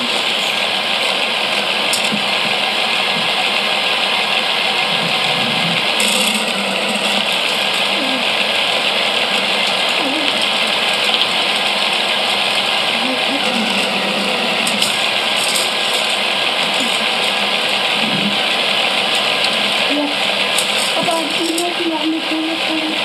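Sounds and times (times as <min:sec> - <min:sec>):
toy roller coaster whirring: 0:00.0 - 0:23.0.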